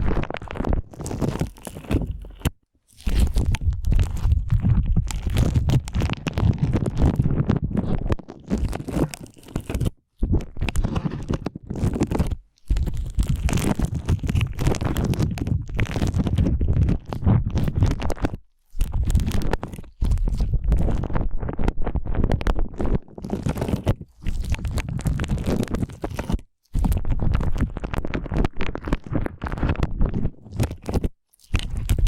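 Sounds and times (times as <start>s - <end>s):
slime squelching: 0.0s - 32.0s.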